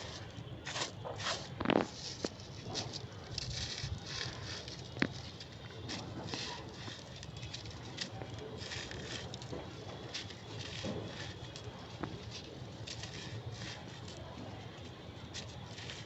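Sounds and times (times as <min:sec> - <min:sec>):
brittle material crunching: 0:00.0 - 0:16.0.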